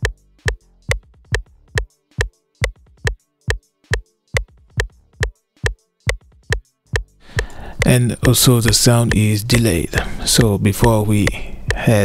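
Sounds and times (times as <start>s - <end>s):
electronic kick drum looping: 0.0s - 9.7s.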